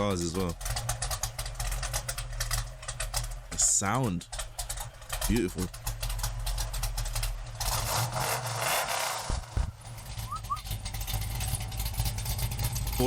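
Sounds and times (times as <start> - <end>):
car engine exhaust rumble: 0.0 - 13.0.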